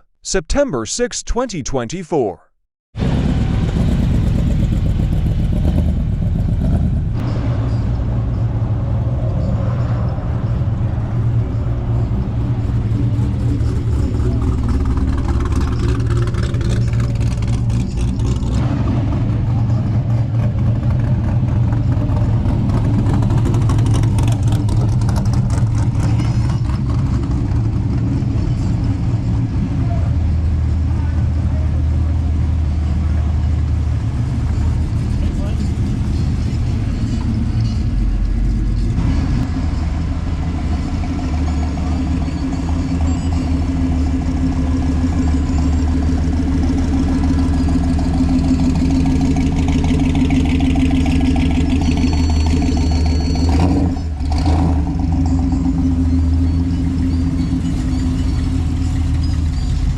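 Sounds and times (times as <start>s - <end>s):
car engine running: 3.0s - 7.8s, 10.4s - 59.9s.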